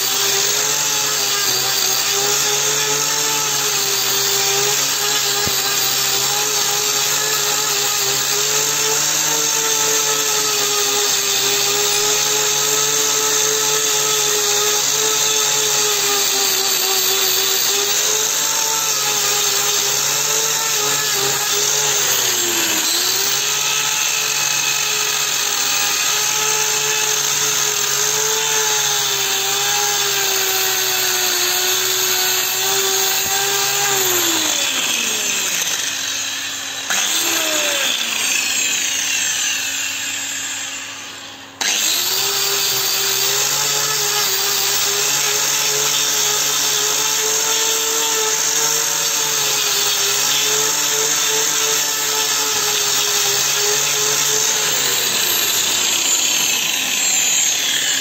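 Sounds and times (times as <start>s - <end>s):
angle grinder grinding: 0.0s - 58.0s.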